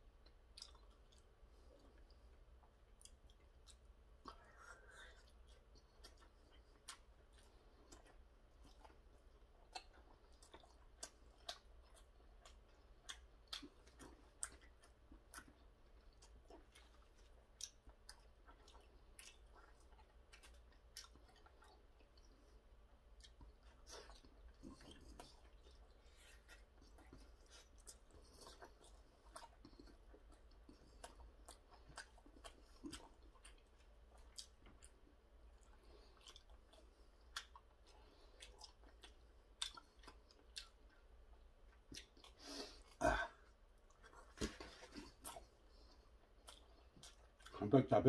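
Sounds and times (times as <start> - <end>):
chewing soft food: 0.0 - 48.0.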